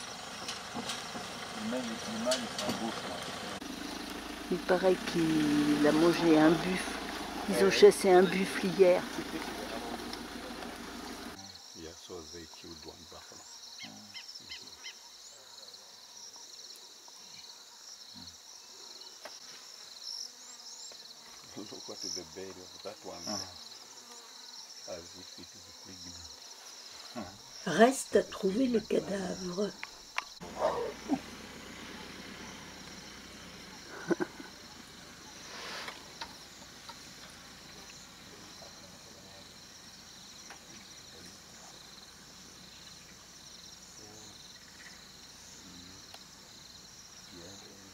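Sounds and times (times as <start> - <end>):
insects buzzing: 0.0 - 47.9.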